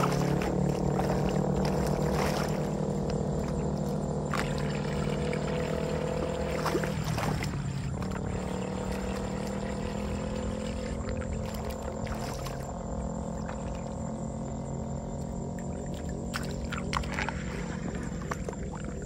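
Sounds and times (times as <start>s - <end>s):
water pouring and gurgling down drain: 0.0s - 14.1s, 15.6s - 19.0s
light water splashes: 0.0s - 19.0s
steady low drone: 0.0s - 19.0s.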